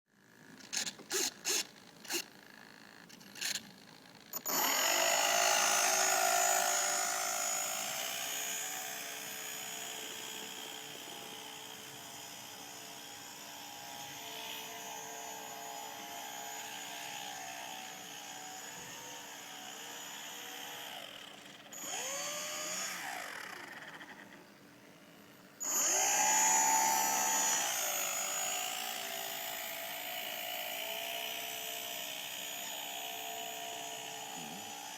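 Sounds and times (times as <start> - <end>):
electric motor whining: 0.6 - 2.3, 3.0 - 24.4, 25.6 - 34.9.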